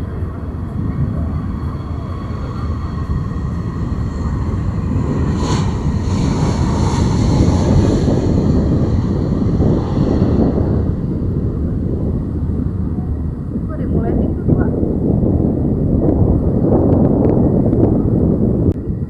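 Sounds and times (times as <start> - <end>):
faint steady whine: 0.0 - 18.8
turboprop engines rumbling: 0.0 - 19.0.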